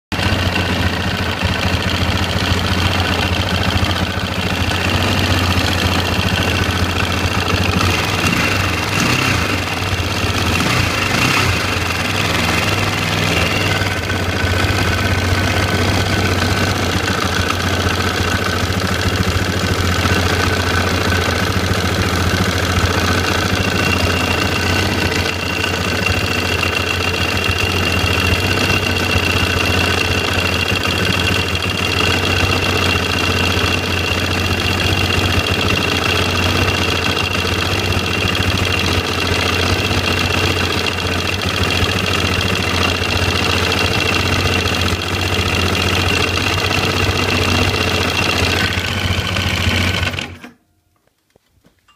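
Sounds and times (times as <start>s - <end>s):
motorcycle engine idling: 0.1s - 50.6s
fast ticking rattle: 0.2s - 50.3s.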